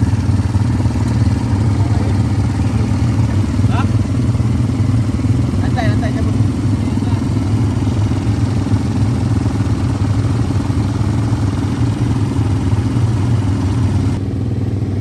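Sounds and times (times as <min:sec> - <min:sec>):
atv engines idling: 0:00.0 - 0:15.0.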